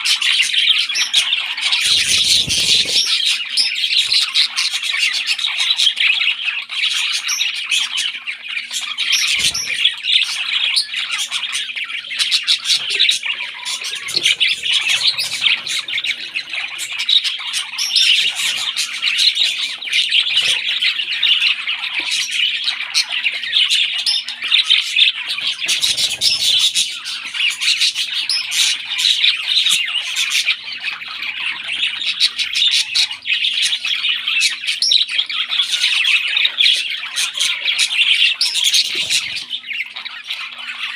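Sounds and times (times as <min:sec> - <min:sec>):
parrot chicks chirping and squawking: 0:00.0 - 0:40.9.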